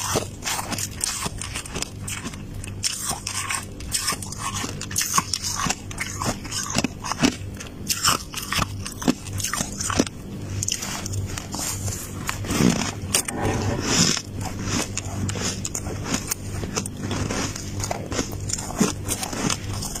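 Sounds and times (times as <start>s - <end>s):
chewing crunchy frost: 0.0s - 20.0s
faint low hum: 0.0s - 20.0s.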